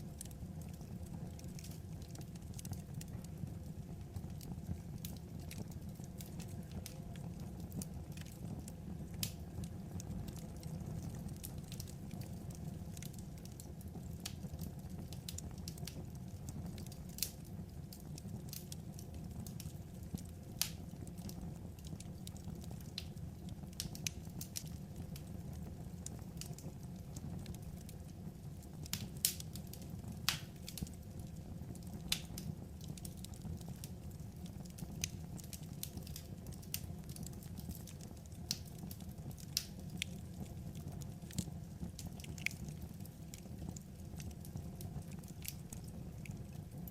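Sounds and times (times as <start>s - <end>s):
fire crackling and popping: 0.0s - 46.9s
low rumble of fire: 0.0s - 46.9s.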